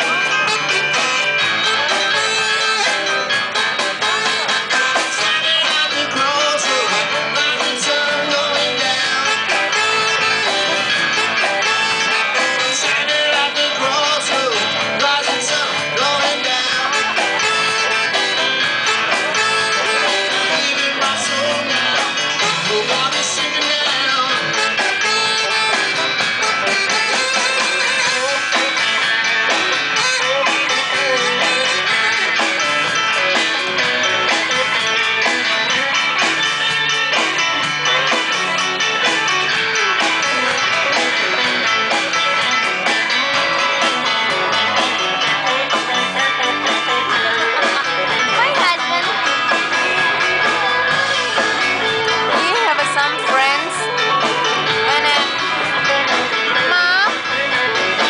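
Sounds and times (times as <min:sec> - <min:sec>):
guitar: 0:00.0 - 0:58.0
live band playing: 0:00.0 - 0:58.0.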